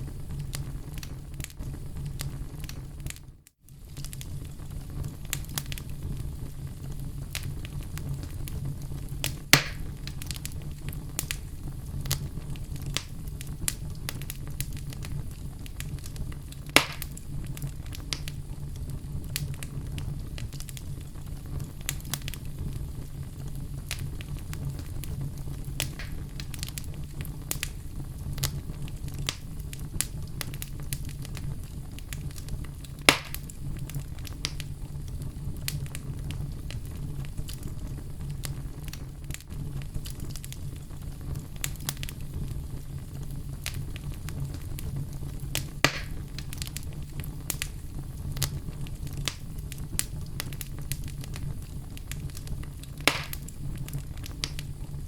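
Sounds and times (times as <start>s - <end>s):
fire crackling: 0.0s - 55.0s
fire flames rumbling: 0.0s - 55.0s
loud pops from burning logs: 0.2s - 55.0s.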